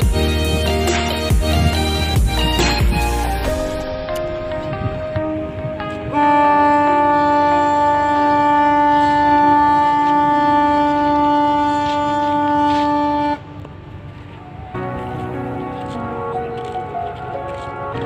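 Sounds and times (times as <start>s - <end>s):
ship horn long blast: 2.9s - 18.0s.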